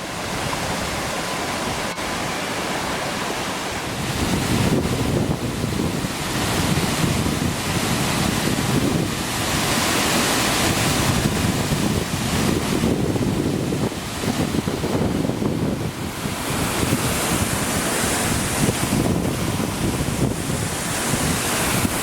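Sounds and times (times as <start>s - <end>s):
waterfall rushing: 0.0s - 22.0s
wind buffeting microphone: 0.0s - 22.0s.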